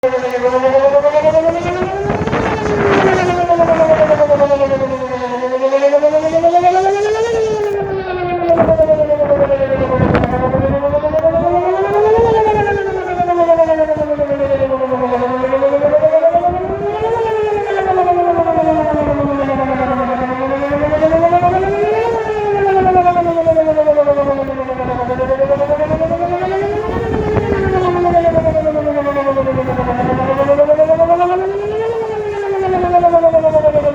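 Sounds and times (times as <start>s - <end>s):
electronic siren wail: 0.0s - 33.9s.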